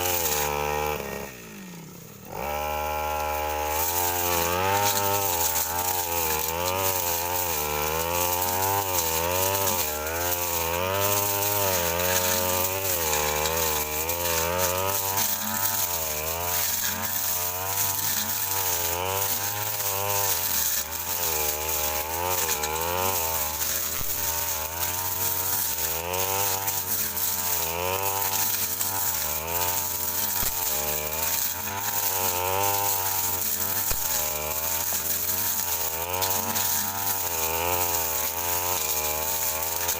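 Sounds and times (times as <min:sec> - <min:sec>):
brush cutter cutting brush: 0:00.0 - 0:39.9.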